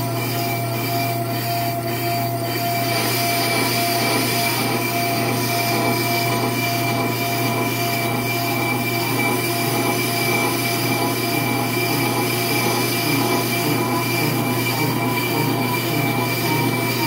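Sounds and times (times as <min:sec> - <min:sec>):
brake lathe high-pitched whine: 0:00.0 - 0:17.0.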